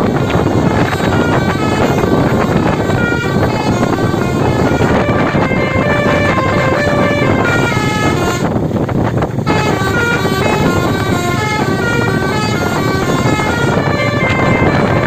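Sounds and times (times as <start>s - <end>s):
multi-tone air horn melody: 0.0s - 8.8s, 9.4s - 15.0s
vehicle noisy rush: 0.0s - 15.0s.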